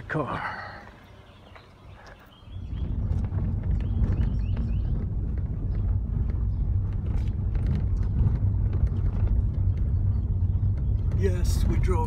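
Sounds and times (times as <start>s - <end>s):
car tyres rumbling on cobblestones: 0.0s - 12.0s
small clicks and rattles: 1.6s - 12.0s.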